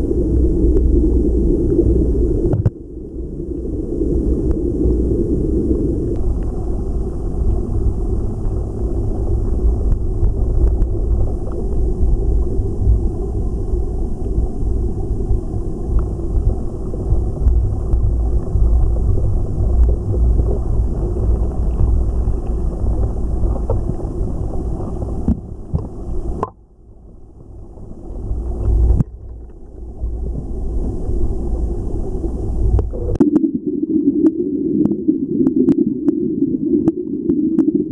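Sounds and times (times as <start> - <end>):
muffled underwater stream flowing: 0.0 - 37.9.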